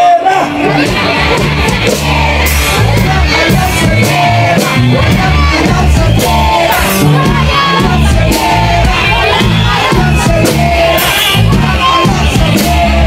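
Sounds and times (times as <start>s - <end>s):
drums: 0.0s - 13.0s
steady bass line: 0.0s - 13.0s.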